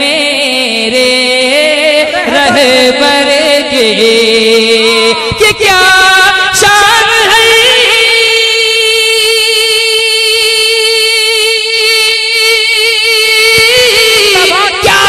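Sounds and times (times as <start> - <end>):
man singing a long high note: 0.0 - 15.0.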